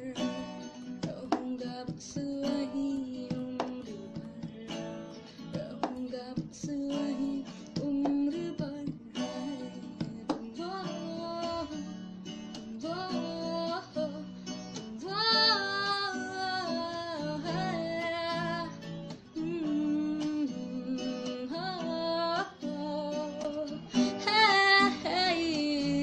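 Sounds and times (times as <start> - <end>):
person singing: 0.0 - 12.0, 12.6 - 26.0
strummed acoustic guitar: 0.0 - 26.0.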